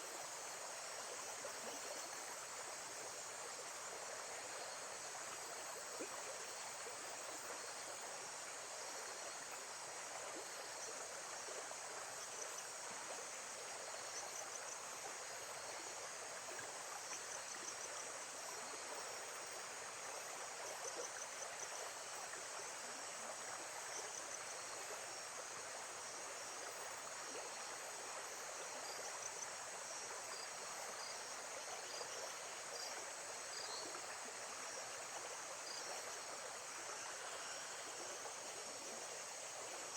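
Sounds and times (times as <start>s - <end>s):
insects chirping: 0.2s - 39.9s.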